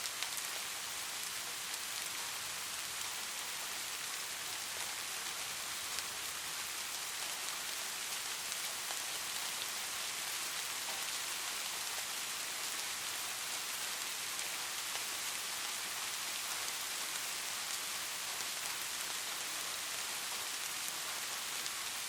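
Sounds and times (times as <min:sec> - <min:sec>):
light rain: 0:00.0 - 0:22.0.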